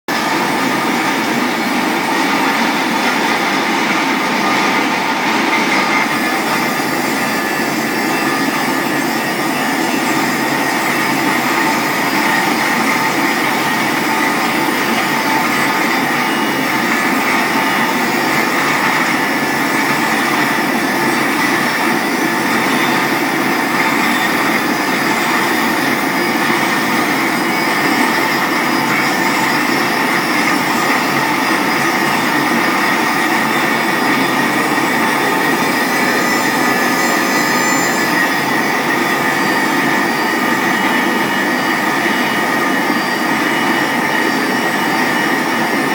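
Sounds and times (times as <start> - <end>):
pipe cleaning machine running: 0.0 - 45.9.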